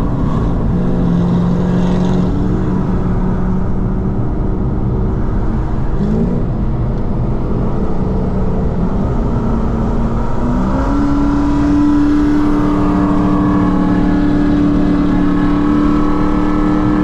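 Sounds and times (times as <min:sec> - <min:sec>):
car engine heard from inside cabin: 0:00.0 - 0:17.0.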